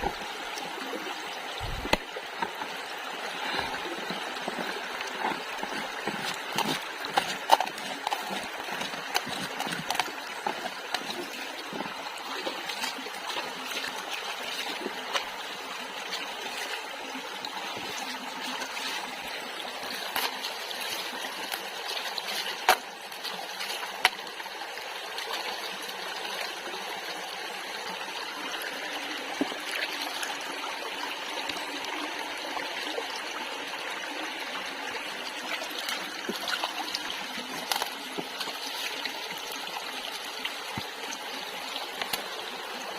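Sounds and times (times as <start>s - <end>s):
water running and trickling: 0.0s - 42.9s.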